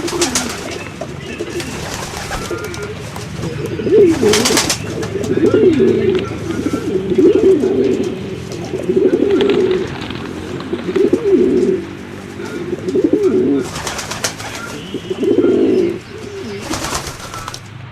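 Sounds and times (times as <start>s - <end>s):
pigeons cooing: 0.0s - 17.9s.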